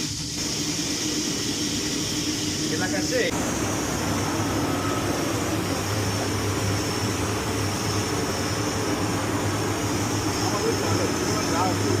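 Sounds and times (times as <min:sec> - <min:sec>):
boiler blower humming: 0:00.0 - 0:12.0.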